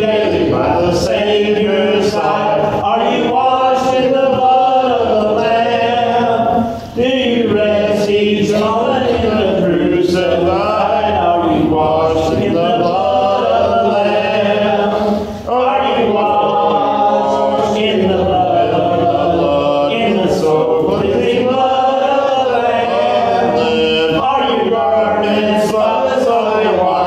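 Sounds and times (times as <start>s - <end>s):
congregation singing a hymn: 0.0s - 27.0s.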